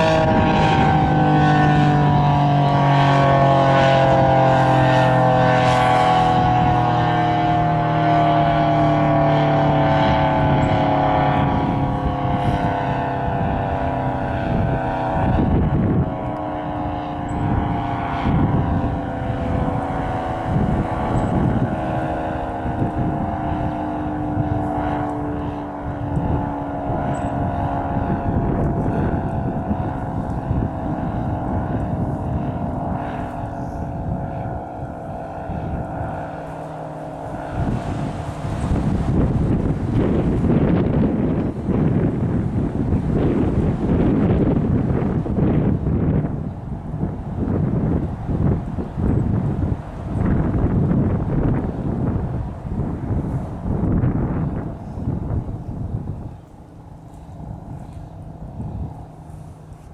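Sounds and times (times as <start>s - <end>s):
tornado siren winding down: 0.0s - 59.9s
wind buffeting microphone: 0.0s - 59.9s.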